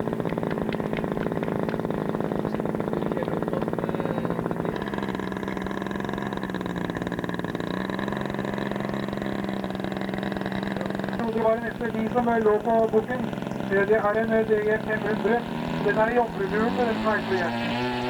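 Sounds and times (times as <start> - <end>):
model airplane engine running: 0.0 - 18.0.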